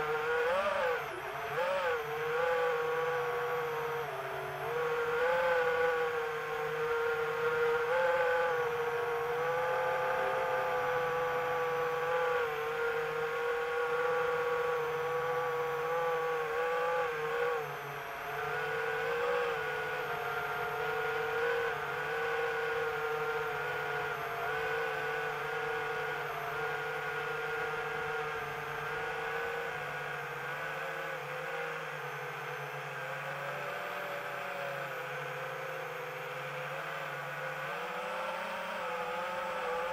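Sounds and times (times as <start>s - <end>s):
drone propellers whirring: 0.0s - 32.3s.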